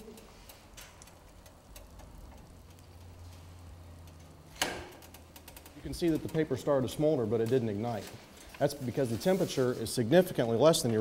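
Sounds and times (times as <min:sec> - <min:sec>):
burning paper crackling: 0:00.0 - 0:11.0.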